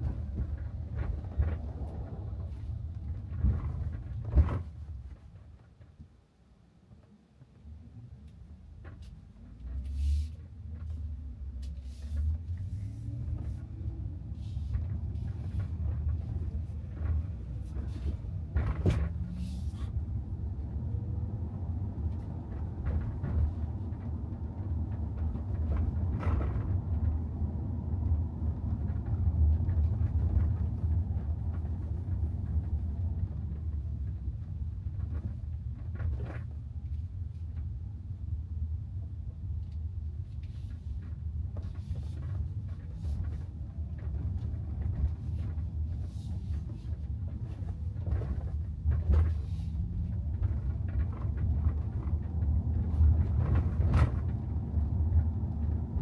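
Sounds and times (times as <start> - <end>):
road and tyre rumble: 0.0 - 56.0.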